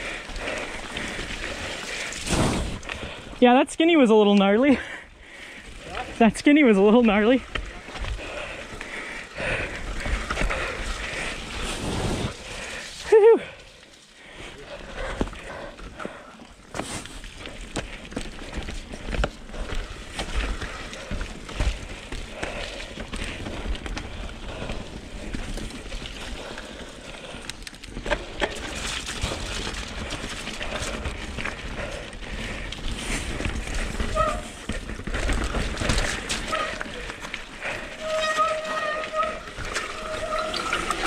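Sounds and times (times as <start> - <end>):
bike rattling: 0.0 - 3.4, 4.6 - 41.0
tyres rolling over dirt and rock: 0.0 - 3.5, 5.5 - 13.7, 14.4 - 41.0.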